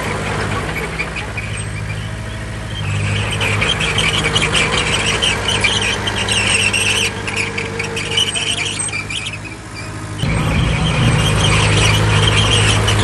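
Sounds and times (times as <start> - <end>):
diesel engine running: 0.0 - 13.0
high-pitched squealing and scraping: 0.0 - 13.0.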